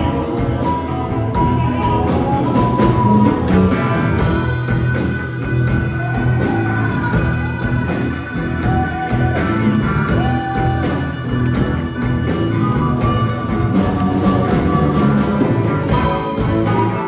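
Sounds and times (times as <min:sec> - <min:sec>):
bass guitar: 0:00.0 - 0:17.0
drum kit: 0:00.0 - 0:17.0
electric guitars: 0:00.0 - 0:17.0
harmonica long note: 0:00.0 - 0:17.0.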